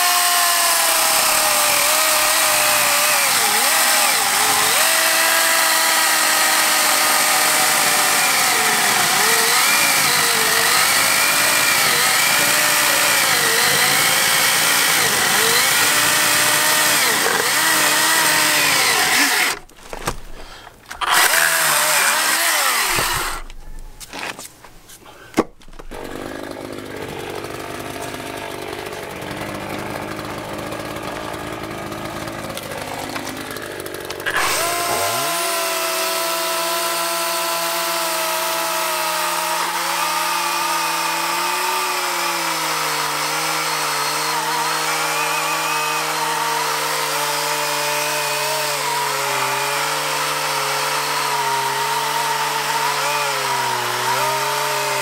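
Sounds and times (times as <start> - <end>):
electric chainsaw cutting wood: 0.0 - 20.3, 20.9 - 23.6, 25.8 - 55.0.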